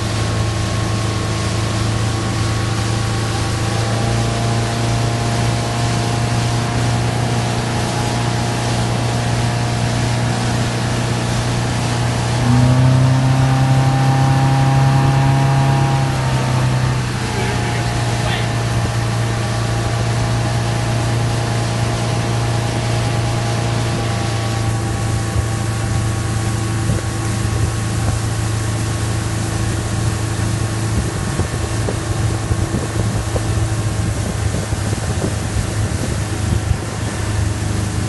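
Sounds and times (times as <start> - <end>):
churning wake rushing: 0.0 - 38.0
motorboat engine hum: 0.0 - 38.0
wind buffeting microphone: 6.8 - 38.0.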